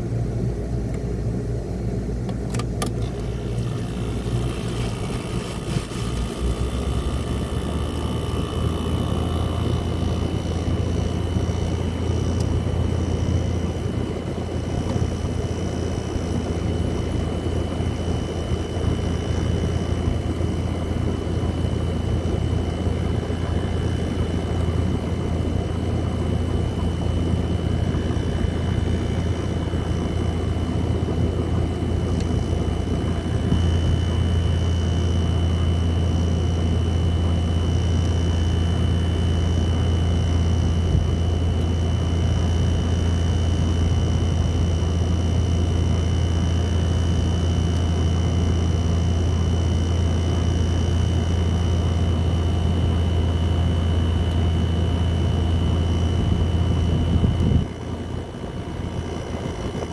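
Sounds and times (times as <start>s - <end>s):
air conditioner running: 0.0s - 59.9s.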